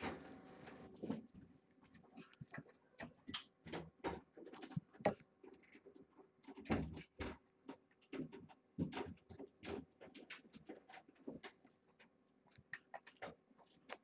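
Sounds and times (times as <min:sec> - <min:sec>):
kittens playing with toys: 0:00.0 - 0:14.0.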